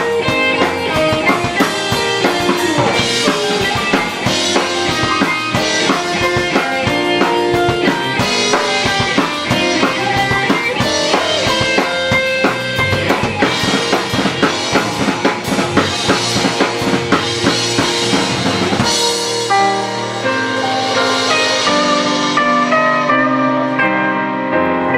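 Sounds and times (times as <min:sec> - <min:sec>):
drum kit beat: 0:00.0 - 0:23.8
bass guitar: 0:00.0 - 0:24.9
guitar: 0:00.0 - 0:24.9.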